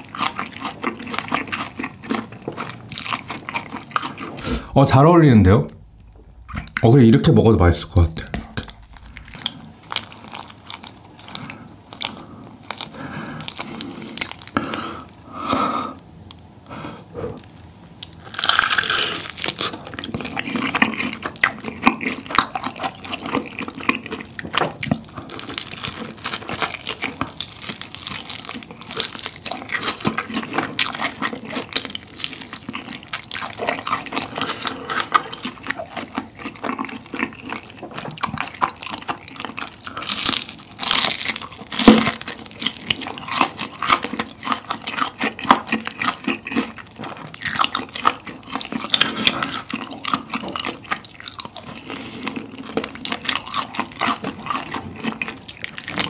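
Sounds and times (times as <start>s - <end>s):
wet sticky chewing: 0.0s - 4.8s, 8.0s - 15.2s, 16.3s - 56.0s.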